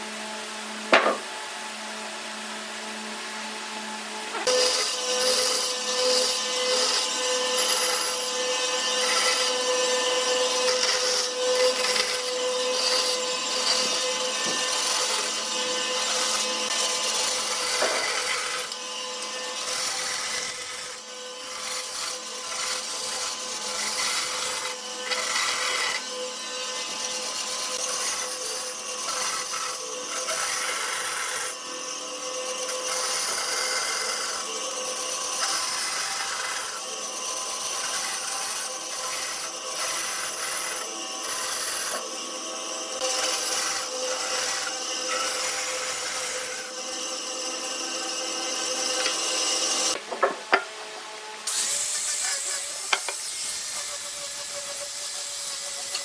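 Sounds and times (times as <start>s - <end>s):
power tool whirring on wood: 0.0s - 56.0s.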